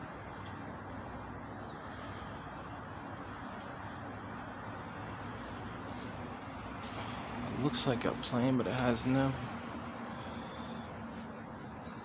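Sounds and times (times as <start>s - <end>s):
low outdoor background hum: 0.0s - 12.0s
small birds chirping: 0.0s - 12.0s.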